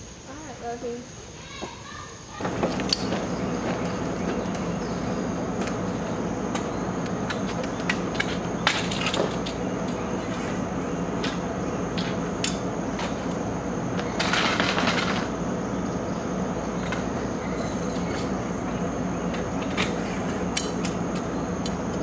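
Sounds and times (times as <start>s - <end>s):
outdoor rumble: 1.5s - 22.0s.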